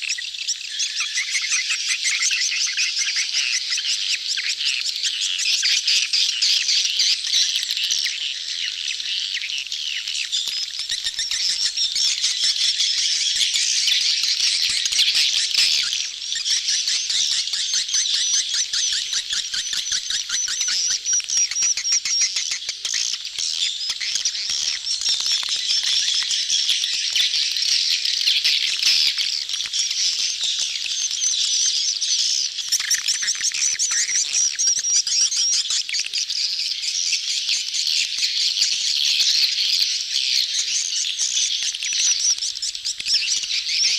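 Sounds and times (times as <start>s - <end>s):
swiftlets twittering and chirping: 0.0s - 43.9s.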